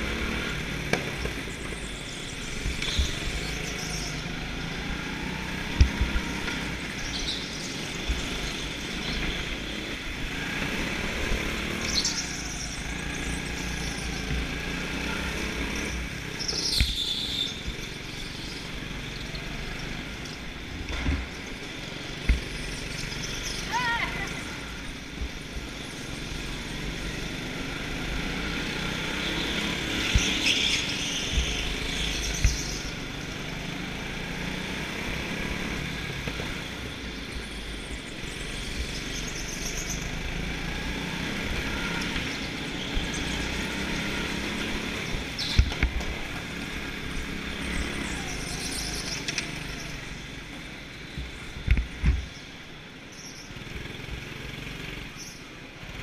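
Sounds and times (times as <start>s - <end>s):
wind rumble on camera: 0.0s - 23.4s, 24.4s - 52.9s
go-kart engine running: 0.0s - 56.0s.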